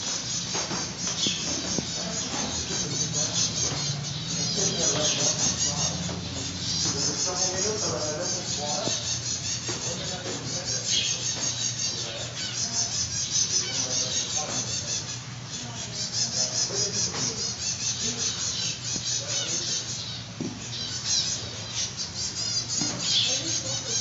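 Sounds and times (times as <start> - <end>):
small birds chirping and twittering: 0.0 - 24.0
steady low hum: 0.0 - 24.0.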